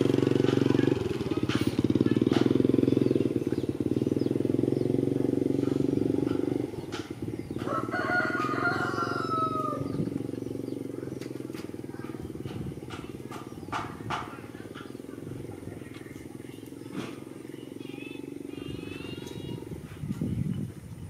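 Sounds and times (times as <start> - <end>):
small motorbike engine running: 0.0 - 21.0.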